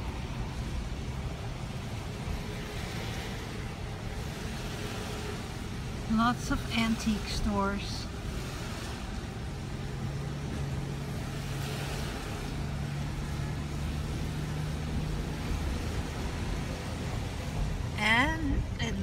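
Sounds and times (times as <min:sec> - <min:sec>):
tyres hissing on wet road: 0:00.0 - 0:18.0
car engine hum: 0:00.0 - 0:19.0.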